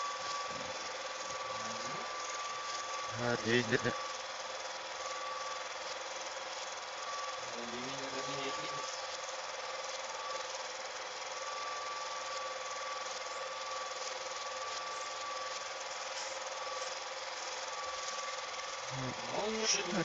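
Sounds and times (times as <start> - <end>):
film projector clatter: 0.0 - 20.0
thin projector whine: 0.0 - 20.0.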